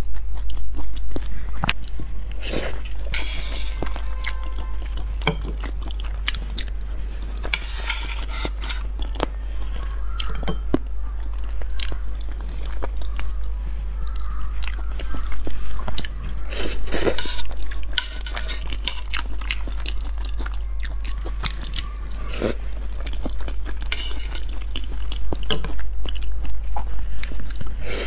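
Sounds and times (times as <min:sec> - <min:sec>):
close chewing with mouth clicks: 0:00.0 - 0:28.0.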